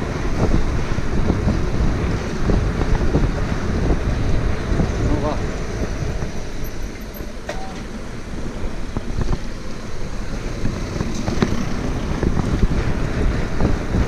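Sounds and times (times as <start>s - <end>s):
bike tyres rumbling on pavement: 0.0s - 14.0s
wind rushing on microphone: 0.0s - 14.0s.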